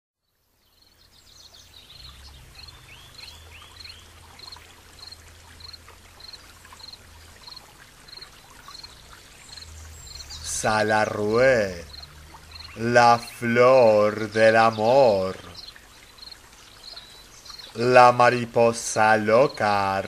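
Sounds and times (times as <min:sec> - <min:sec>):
running water: 0:00.4 - 0:20.0
arching bird calls: 0:01.6 - 0:20.0.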